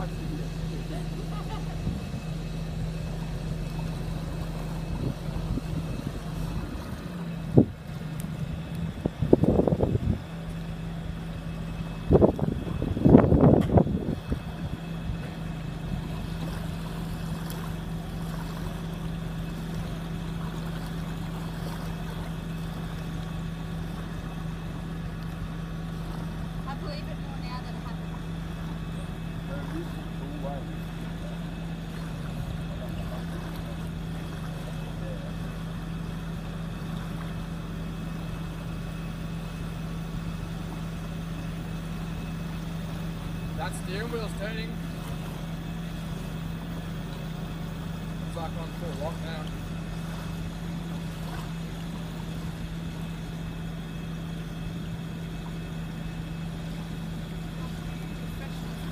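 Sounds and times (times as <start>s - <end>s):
engine idling hum: 0.0s - 58.9s.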